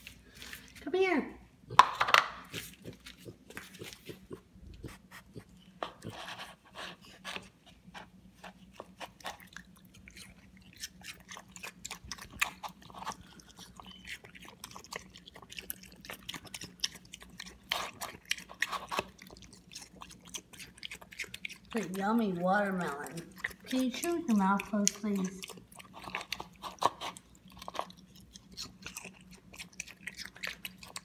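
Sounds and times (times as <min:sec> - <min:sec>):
pig chewing with wet smacking: 0:02.4 - 0:31.0.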